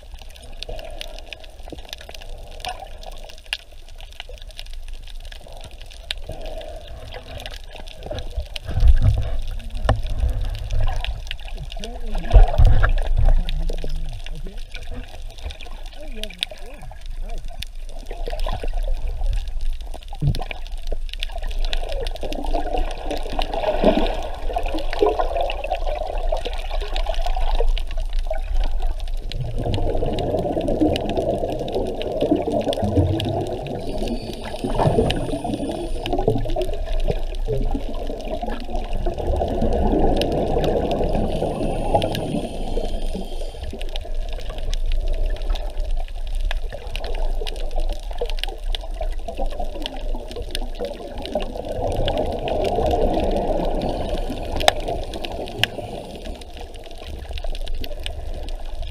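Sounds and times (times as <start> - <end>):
muffled underwater sloshing: 0.0 - 58.9.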